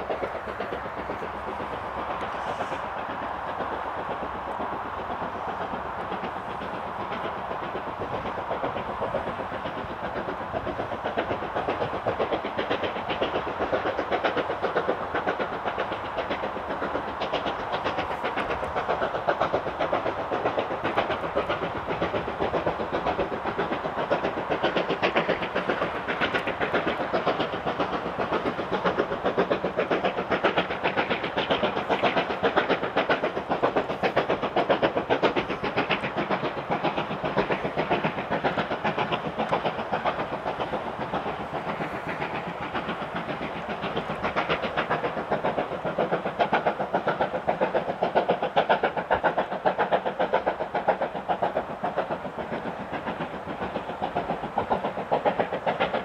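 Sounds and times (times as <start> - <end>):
motorway traffic roar: 0.0 - 56.0
steam locomotive exhaust beating: 0.0 - 56.0.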